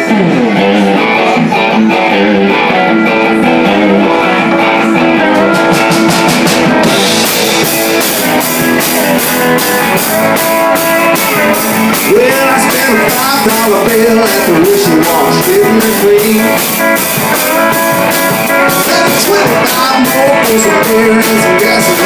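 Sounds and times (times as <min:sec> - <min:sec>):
bass: 0:00.0 - 0:22.0
electric guitar: 0:00.0 - 0:22.0
steel guitar: 0:00.0 - 0:22.0
drums steady beat: 0:03.1 - 0:22.0.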